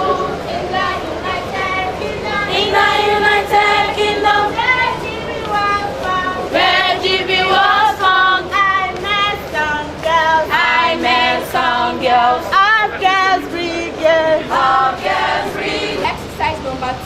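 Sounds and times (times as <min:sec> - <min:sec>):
group of voices singing: 0:00.0 - 0:16.4.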